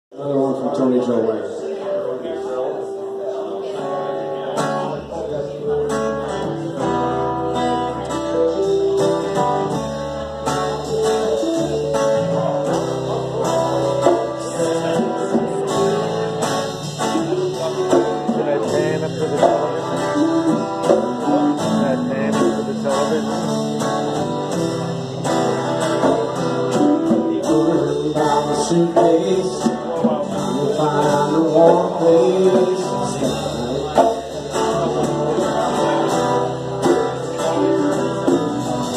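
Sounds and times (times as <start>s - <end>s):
electric guitars: 2.4s - 38.9s
electric bass: 4.4s - 38.9s.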